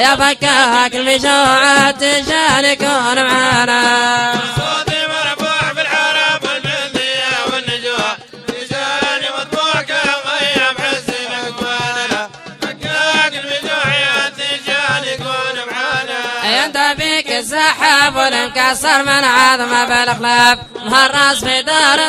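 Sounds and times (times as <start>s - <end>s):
hand drum beats: 0.0s - 22.0s.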